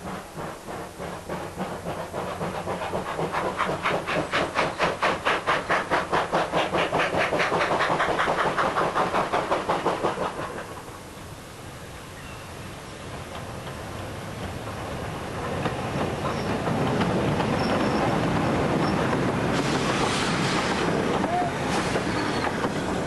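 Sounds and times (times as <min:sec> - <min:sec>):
steam locomotive chuffing: 0:00.0 - 0:11.2, 0:12.6 - 0:23.0.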